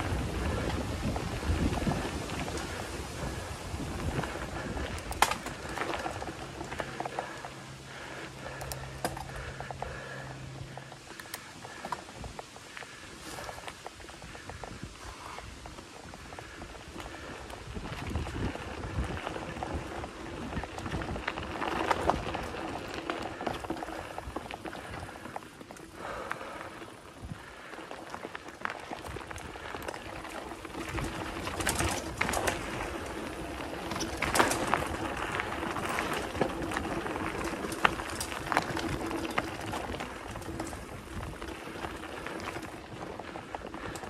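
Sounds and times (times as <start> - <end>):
bike rattling: 0.0 - 44.0
bike tyres crunching over dirt: 0.0 - 44.0.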